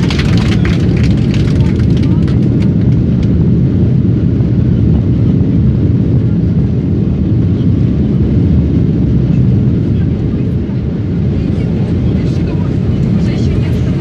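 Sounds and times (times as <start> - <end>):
jet engines reverse thrust roar: 0.0 - 14.0
runway rumble: 0.0 - 14.0.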